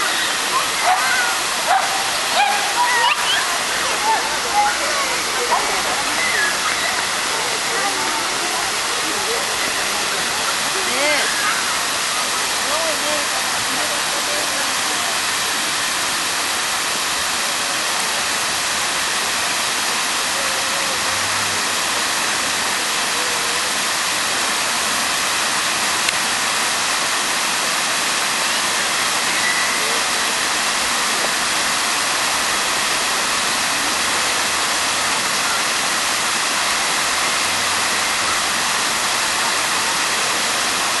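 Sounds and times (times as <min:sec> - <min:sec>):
fountain water splashing: 0:00.0 - 0:41.0.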